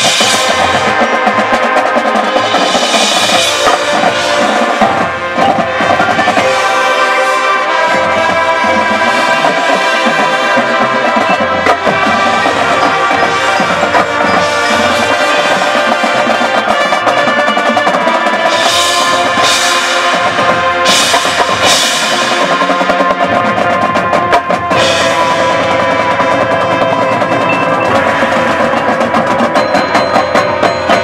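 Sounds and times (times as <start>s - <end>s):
brass and wind chords: 0.0s - 31.0s
drums and percussion: 0.0s - 31.0s.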